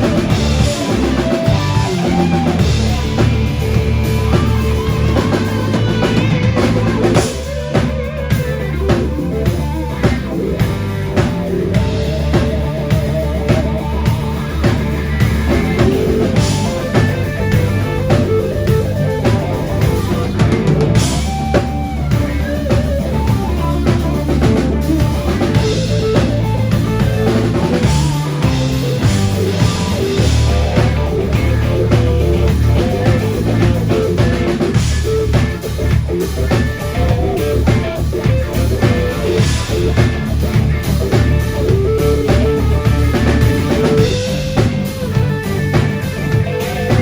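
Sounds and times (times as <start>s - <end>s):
bass guitar: 0.0s - 47.0s
drum kit: 0.0s - 47.0s
electric guitar: 0.0s - 47.0s.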